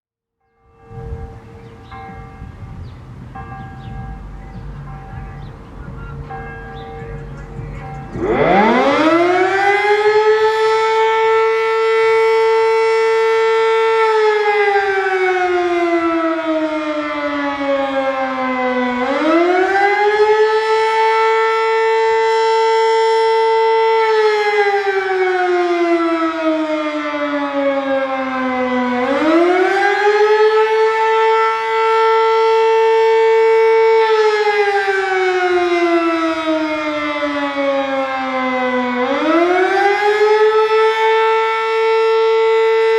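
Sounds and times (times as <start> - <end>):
electromechanical siren wailing: 0.7 - 42.9.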